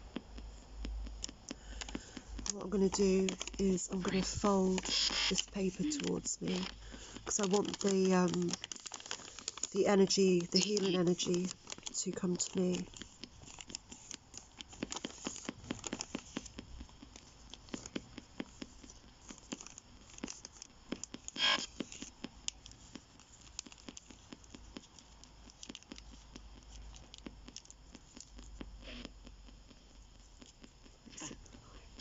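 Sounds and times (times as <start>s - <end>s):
paper crinkling and rustling: 1.7s - 28.3s.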